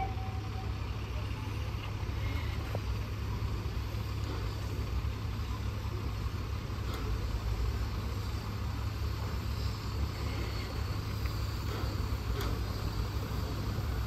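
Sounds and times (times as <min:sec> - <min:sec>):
low rumble of locomotives: 0:00.0 - 0:14.0.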